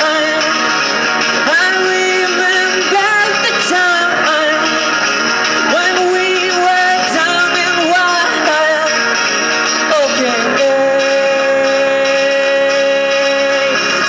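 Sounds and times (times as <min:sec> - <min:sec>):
electric guitar: 0:00.0 - 0:14.0
man singing: 0:00.0 - 0:14.0.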